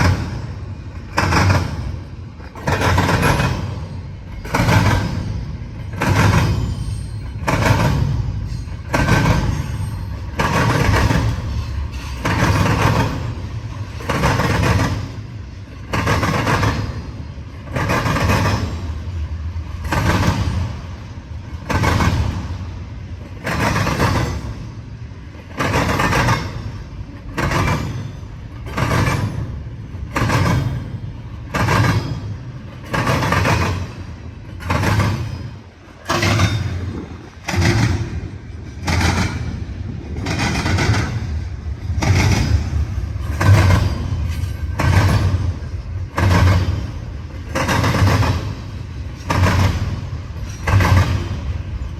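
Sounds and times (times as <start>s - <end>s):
train rolling rumble: 0.0s - 51.9s
train wheels clattering over track: 0.0s - 51.9s.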